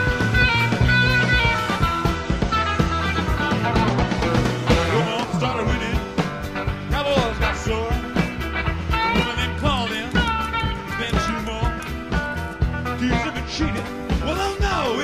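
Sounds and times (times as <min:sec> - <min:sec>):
bass guitar: 0:00.0 - 0:15.0
lead guitar bending notes: 0:00.0 - 0:15.0
steady drum beat: 0:00.0 - 0:15.0.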